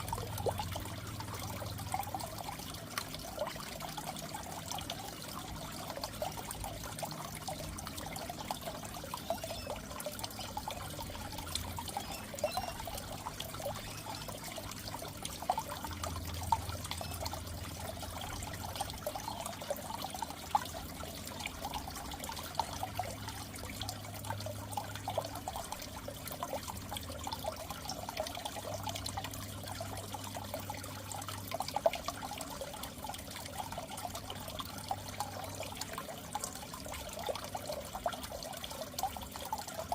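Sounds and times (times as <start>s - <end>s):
aquarium water trickling and bubbling: 0.0s - 39.9s
small water splashes: 0.0s - 39.9s.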